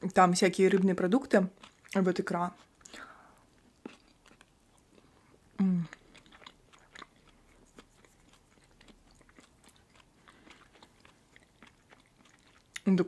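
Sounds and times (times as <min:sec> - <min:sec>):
close-up chewing: 0:00.5 - 0:13.0.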